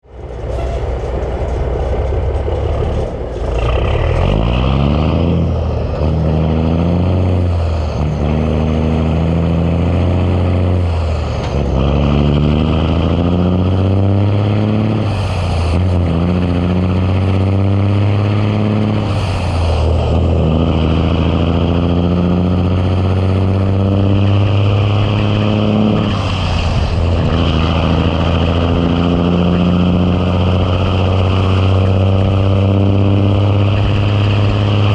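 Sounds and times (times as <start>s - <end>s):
diesel truck engine accelerating: 0.0s - 34.9s.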